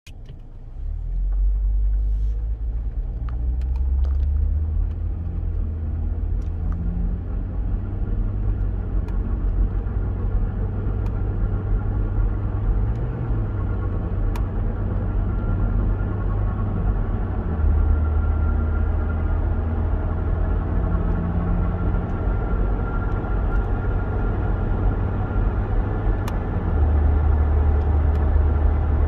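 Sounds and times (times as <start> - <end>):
propeller shaft deep rumble: 0.5 - 29.0.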